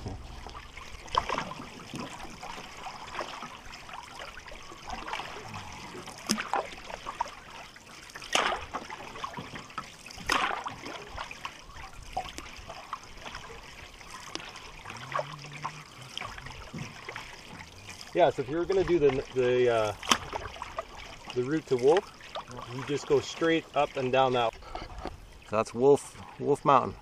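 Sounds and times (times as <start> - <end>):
water dripping off paddle: 0.0 - 26.9
paddle pulling through water: 0.0 - 27.0
paddle splash: 0.0 - 27.0.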